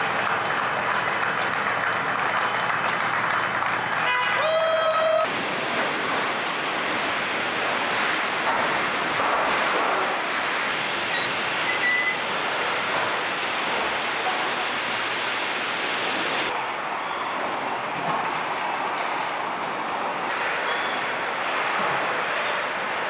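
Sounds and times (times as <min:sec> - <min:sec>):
factory machinery and air noise: 0:00.0 - 0:23.0.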